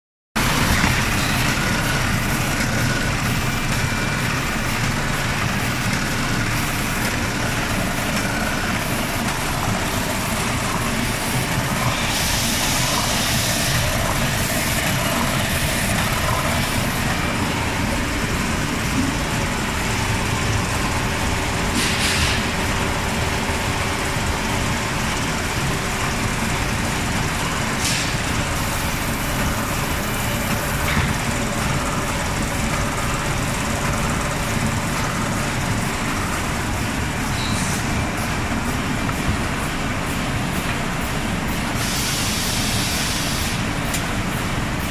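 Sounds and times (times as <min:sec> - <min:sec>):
machine clatter and hum: 0:00.4 - 0:44.9.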